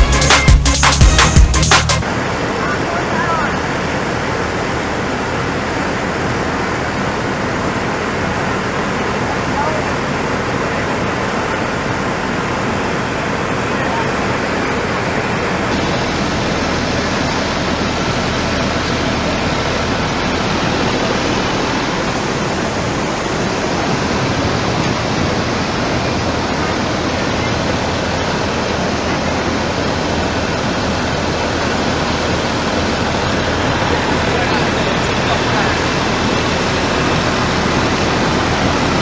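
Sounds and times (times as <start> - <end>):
rushing floodwater roar: 2.0 - 39.0.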